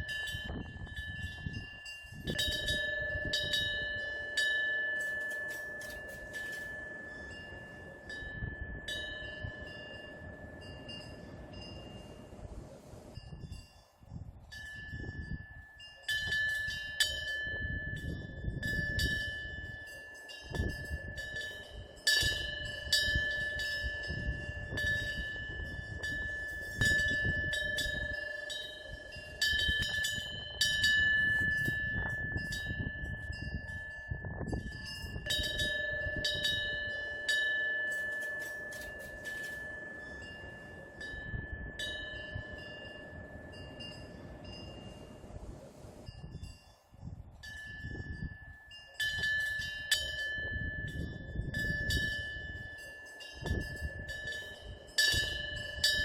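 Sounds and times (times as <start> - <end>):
temple bell ringing: 0.0 - 12.4, 14.5 - 45.3, 47.4 - 56.0
gusting wind rumble: 0.0 - 56.0.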